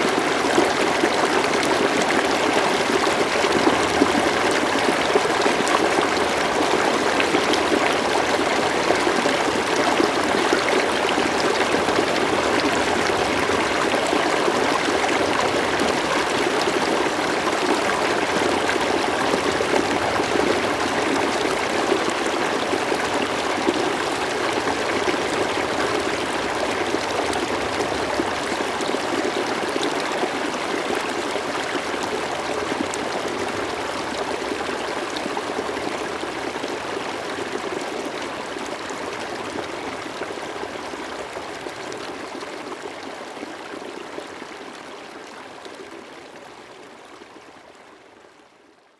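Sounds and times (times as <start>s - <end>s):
river flowing over stones: 0.0s - 47.4s.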